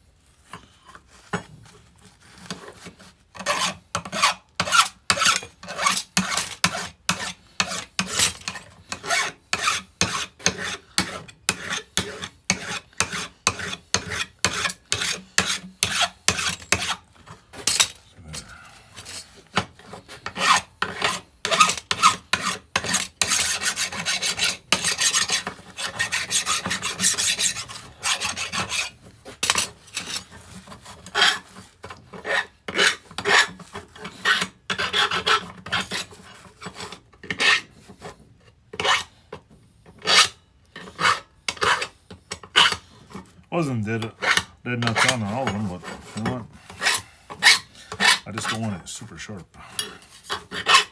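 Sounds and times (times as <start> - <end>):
hand file rasping on steel: 2.4 - 17.0, 18.9 - 38.2, 38.8 - 39.1, 40.0 - 43.3, 43.9 - 48.7, 49.7 - 50.9.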